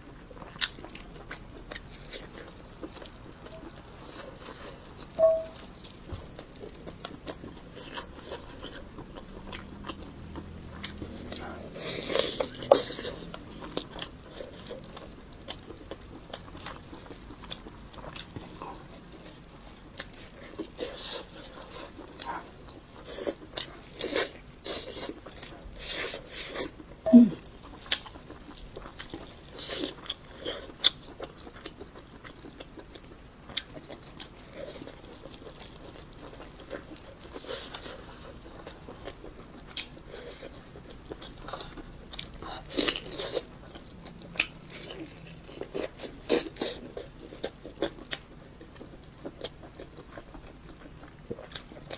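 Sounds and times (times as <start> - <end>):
chewing and biting: 0.0 - 51.9.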